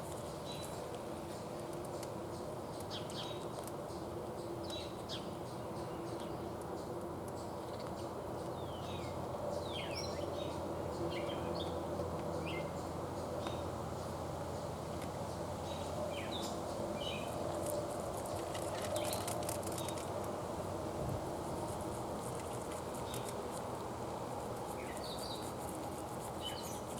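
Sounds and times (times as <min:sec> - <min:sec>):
small songbirds chirping: 0:00.0 - 0:20.2, 0:22.9 - 0:23.6, 0:24.6 - 0:26.9.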